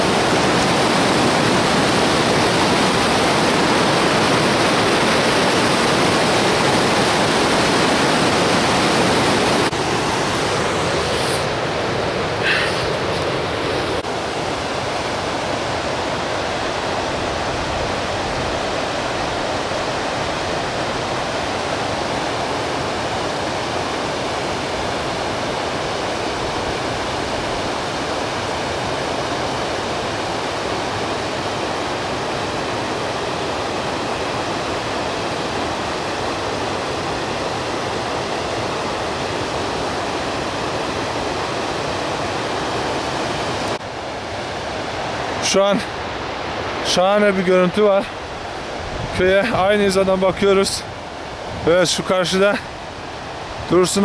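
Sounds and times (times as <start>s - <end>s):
rushing stream water: 0.0s - 54.0s.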